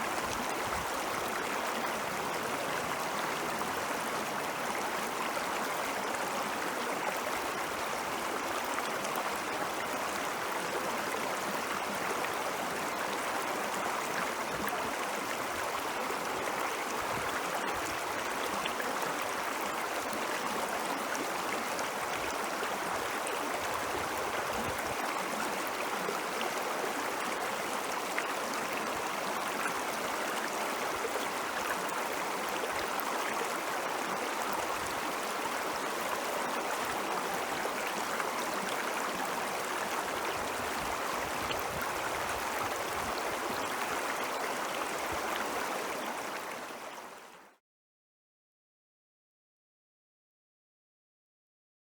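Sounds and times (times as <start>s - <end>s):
stream flowing: 0.0s - 47.4s.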